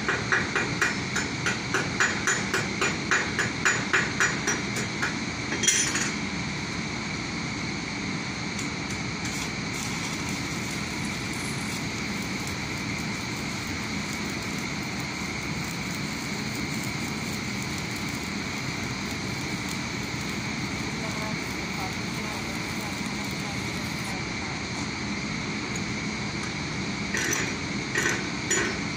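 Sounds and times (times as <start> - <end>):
welding arc crackling and hissing: 0.0 - 7.0, 8.5 - 28.9.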